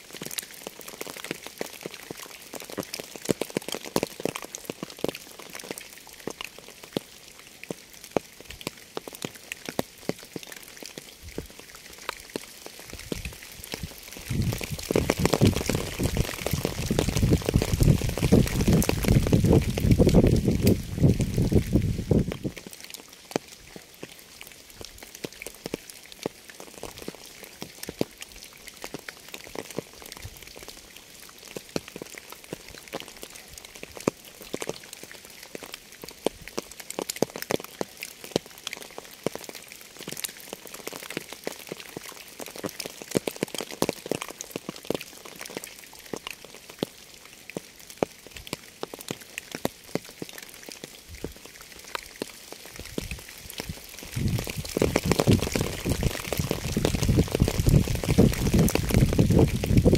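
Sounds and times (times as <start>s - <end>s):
rain falling: 0.0s - 59.9s
raindrops striking: 0.0s - 59.9s.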